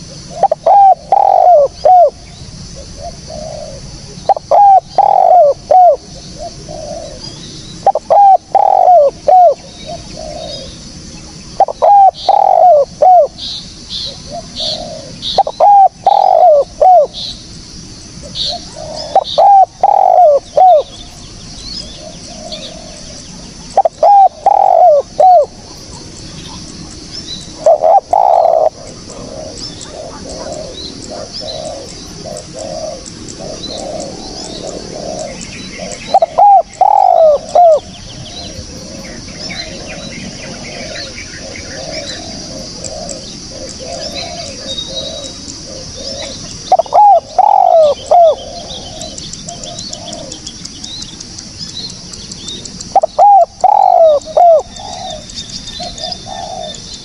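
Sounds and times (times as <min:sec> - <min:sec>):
dove cooing: 0:00.0 - 0:10.9, 0:11.5 - 0:17.4, 0:18.2 - 0:50.6, 0:52.1 - 0:57.0.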